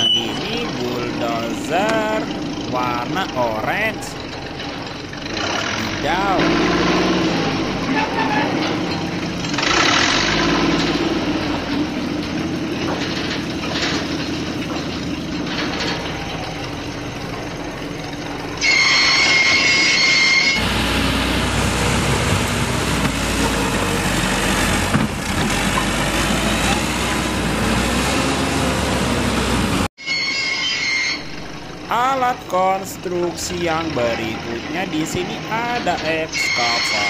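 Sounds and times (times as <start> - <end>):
deep diesel engine rumble: 0.0 - 29.9, 31.1 - 37.0
construction machinery engine noise: 0.0 - 37.0.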